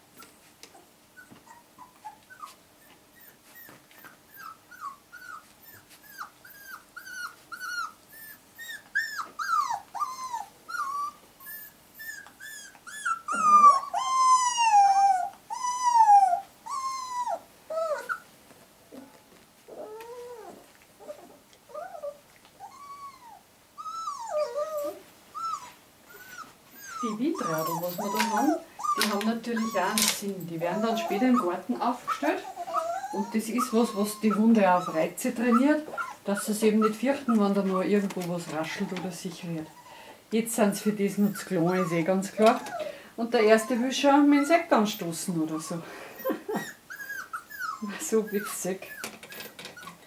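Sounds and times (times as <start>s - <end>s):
puppies whimpering: 0.8s - 18.3s, 19.7s - 37.8s, 38.4s - 40.1s, 40.7s - 50.0s.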